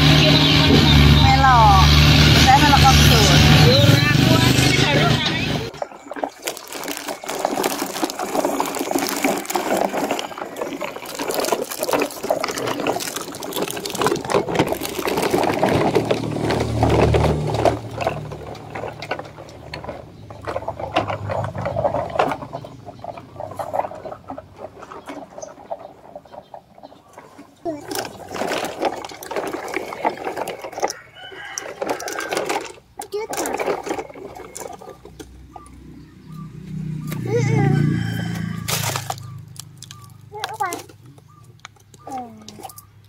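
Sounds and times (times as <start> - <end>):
toy trucks rattling over gravel: 0.0 - 43.0.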